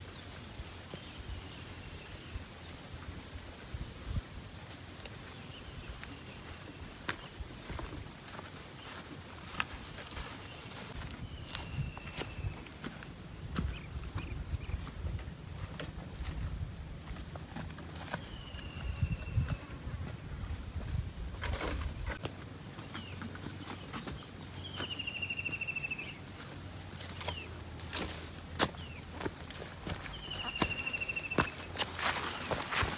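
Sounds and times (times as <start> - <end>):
faint high insect tone: 0.0 - 32.9.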